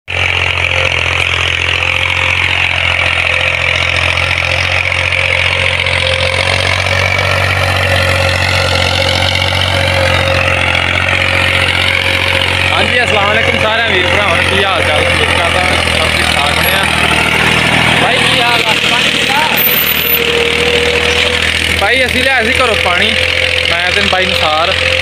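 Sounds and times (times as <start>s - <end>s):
tractor engine running: 0.1s - 25.0s.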